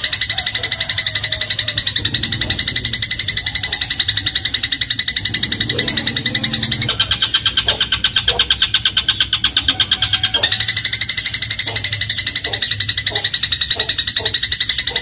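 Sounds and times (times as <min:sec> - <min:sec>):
sparrow chattering trill: 0:00.0 - 0:15.0.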